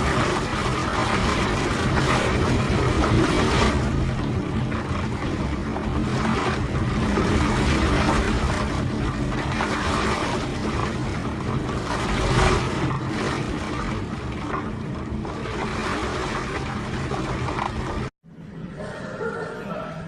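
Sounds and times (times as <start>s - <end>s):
floodwater surging: 0.0s - 18.1s.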